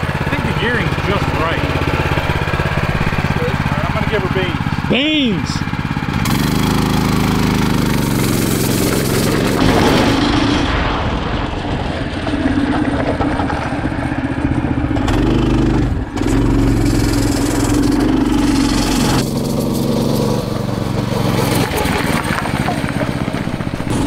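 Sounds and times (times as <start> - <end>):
small engine revving: 0.0 - 10.9, 12.0 - 24.0.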